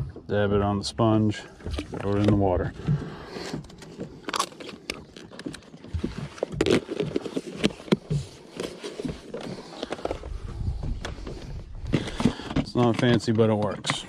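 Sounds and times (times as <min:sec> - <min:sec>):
plastic tub being moved: 0:01.3 - 0:04.2, 0:04.8 - 0:14.0
plastic scraping: 0:01.6 - 0:14.0.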